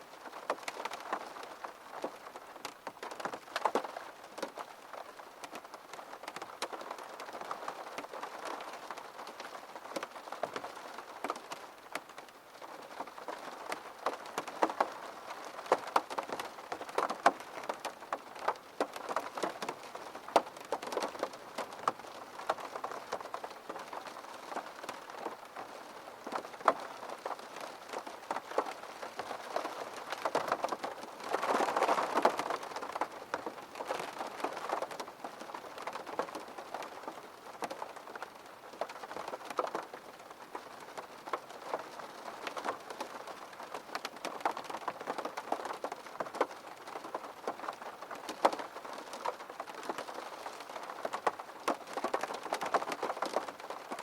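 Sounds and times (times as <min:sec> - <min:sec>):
rain on window glass: 0:00.0 - 0:54.0
raindrops tapping: 0:00.2 - 0:54.0.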